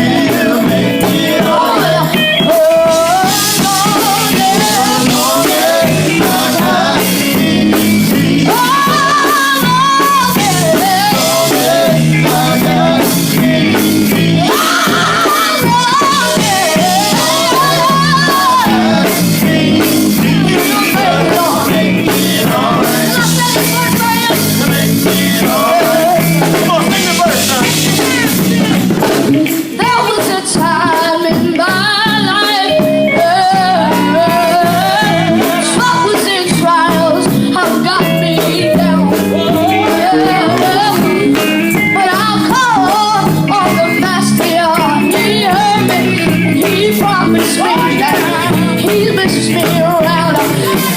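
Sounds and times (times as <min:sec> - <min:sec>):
drums: 0:00.0 - 0:50.9
gospel group singing with band: 0:00.0 - 0:50.9
lead voice singing: 0:00.0 - 0:50.9.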